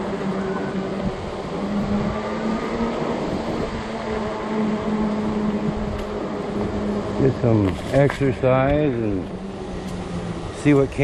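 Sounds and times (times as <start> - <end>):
electric bike hum: 0.0 - 11.0
wind buffeting microphone: 0.0 - 11.0.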